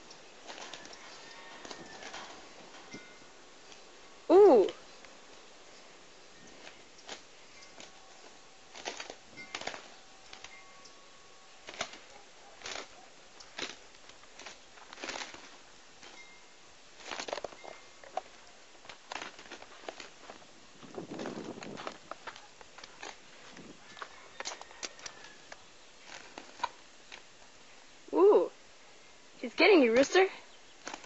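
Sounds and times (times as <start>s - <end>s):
wings flapping and scuffling: 0.0s - 27.8s, 29.5s - 31.0s.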